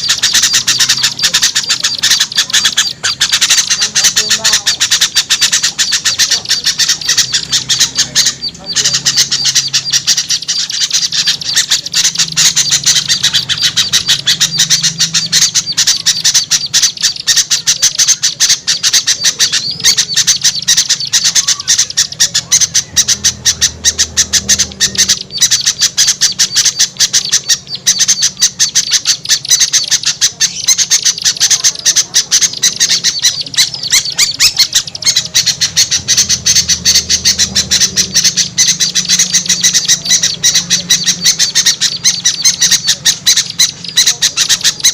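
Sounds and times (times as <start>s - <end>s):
small songbirds chattering and squawking: 0.0s - 44.9s.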